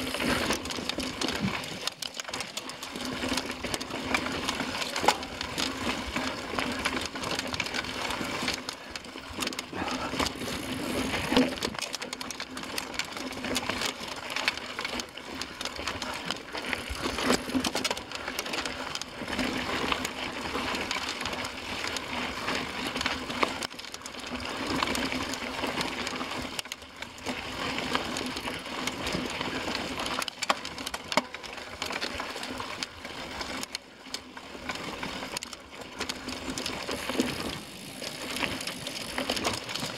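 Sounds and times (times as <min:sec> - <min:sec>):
bike rattling and knocking: 0:00.0 - 0:39.9
tyres crunching over gravel: 0:00.0 - 0:39.9.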